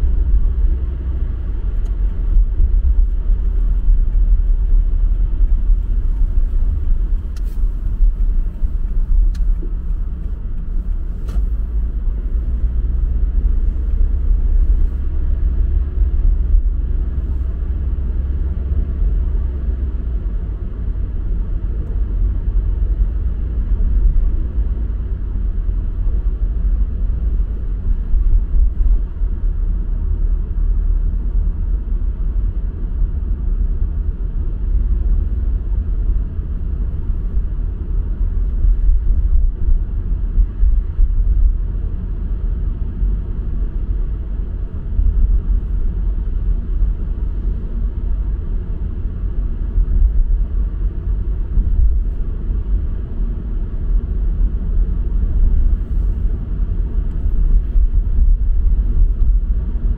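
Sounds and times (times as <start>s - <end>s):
car road rumble from inside: 0.0s - 59.9s.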